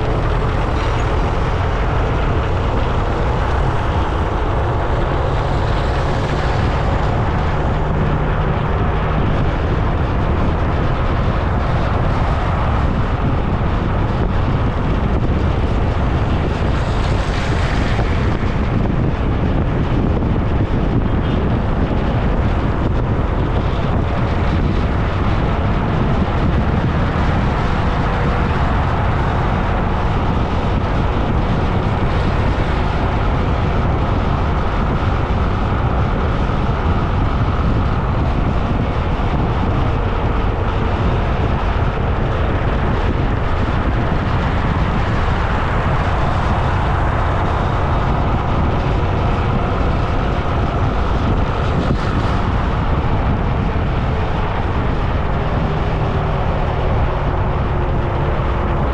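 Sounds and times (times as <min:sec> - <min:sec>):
road noise: 0:00.0 - 0:58.9
wind rushing: 0:00.0 - 0:58.9.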